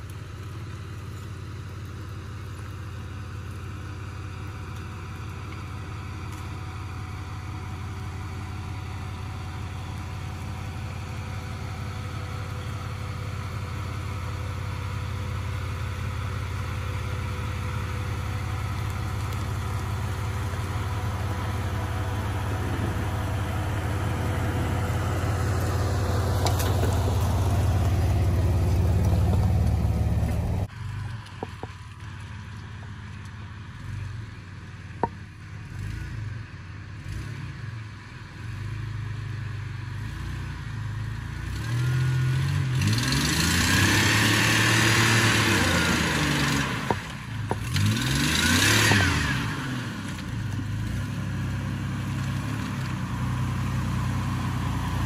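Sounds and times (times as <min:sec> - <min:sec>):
engine running at low revs: 0:00.0 - 0:55.0.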